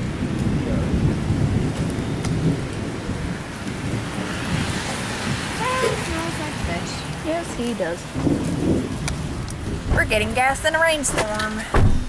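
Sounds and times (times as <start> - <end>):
deep thunder rumble: 0.0 - 12.0
heavy rain pouring: 0.0 - 12.0.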